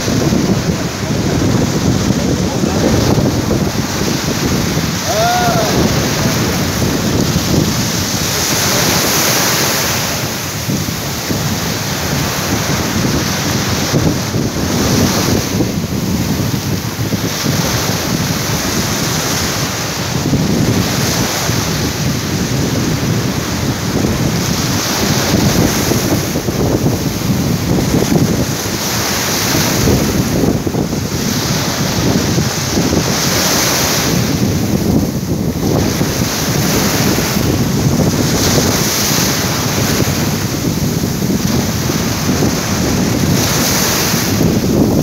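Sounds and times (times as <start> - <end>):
surf breaking on shore: 0.0 - 45.0
wind buffeting microphone: 0.0 - 45.0.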